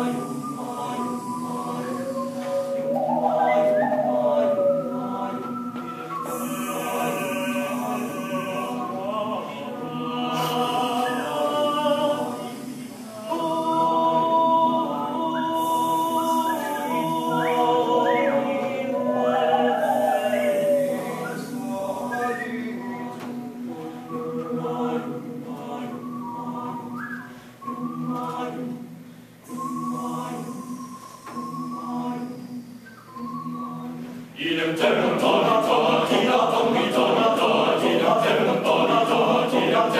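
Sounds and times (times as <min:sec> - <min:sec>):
male choir singing a cappella: 0:00.0 - 0:39.9.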